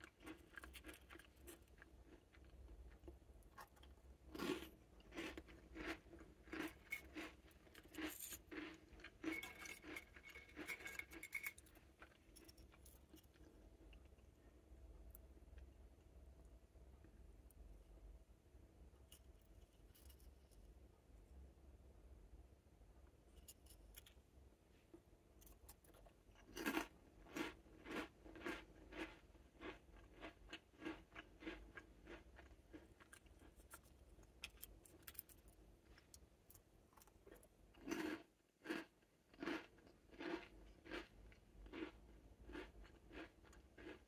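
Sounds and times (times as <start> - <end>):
cookies being chewed crunchily: 0.0 - 17.8, 23.0 - 44.0.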